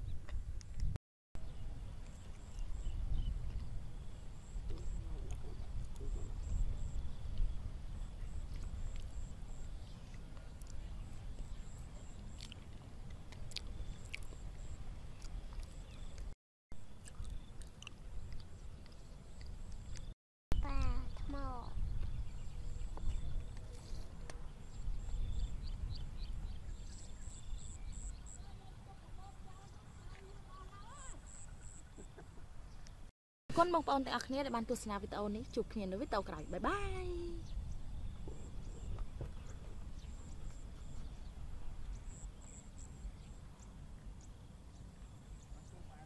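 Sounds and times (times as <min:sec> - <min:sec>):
wind rumbling on microphone: 0:00.0 - 0:16.3, 0:16.9 - 0:32.0, 0:34.3 - 0:46.0.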